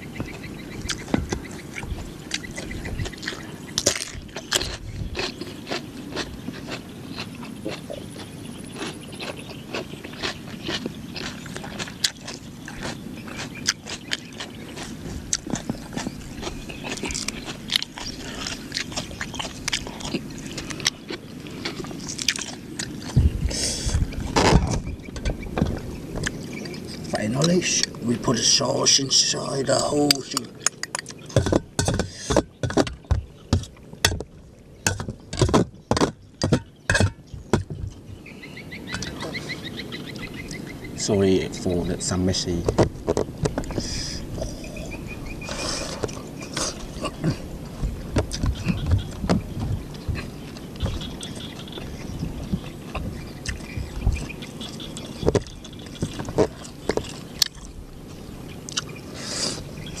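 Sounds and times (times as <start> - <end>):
leafy greens rustling and crackling: 0.0 - 44.6, 45.2 - 60.0
soft chewing: 0.1 - 28.6, 29.2 - 35.6, 43.0 - 60.0.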